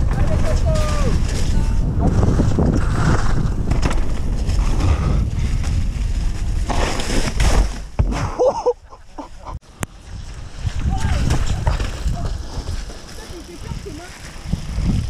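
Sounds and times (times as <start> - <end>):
wind buffeting microphone: 0.0 - 7.4, 9.4 - 15.0
mountain bike rattling on dirt trail: 0.0 - 7.7, 9.9 - 15.0.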